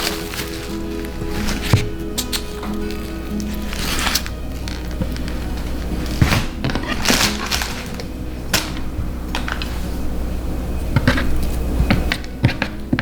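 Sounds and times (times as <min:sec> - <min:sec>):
utensils knocking and clicking: 0:00.0 - 0:09.9, 0:10.9 - 0:13.0.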